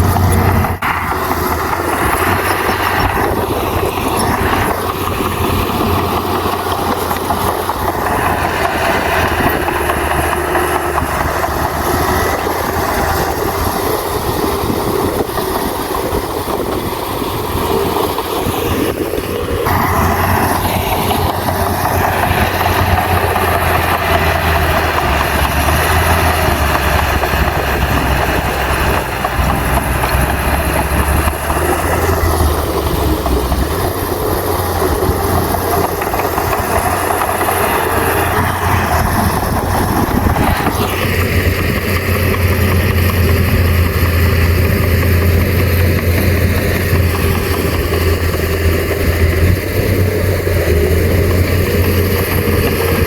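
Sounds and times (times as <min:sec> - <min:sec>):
bulldozer diesel engine running: 0:00.0 - 0:53.0
mechanical clatter: 0:00.0 - 0:53.0.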